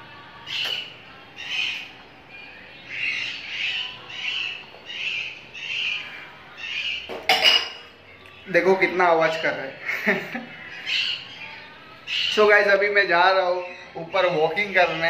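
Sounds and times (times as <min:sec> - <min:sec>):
parrots squawking: 0:00.4 - 0:07.8, 0:08.6 - 0:15.0.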